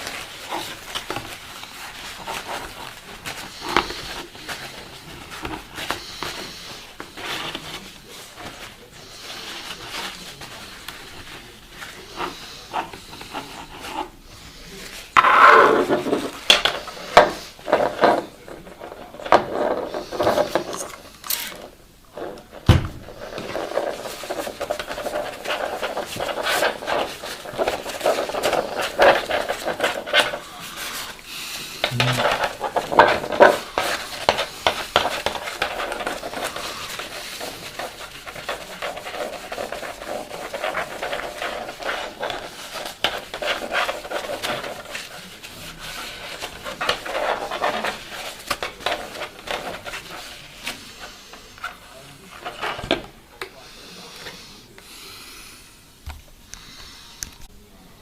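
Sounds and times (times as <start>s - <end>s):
hard objects rubbing and scraping: 0.0s - 53.3s.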